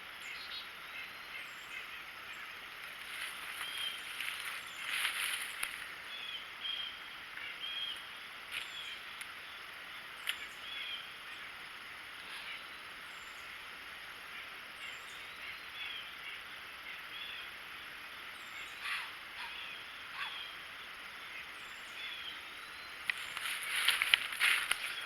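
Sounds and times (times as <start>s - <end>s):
steady background hiss: 0.0s - 25.0s
wild birds chirping: 0.0s - 25.0s.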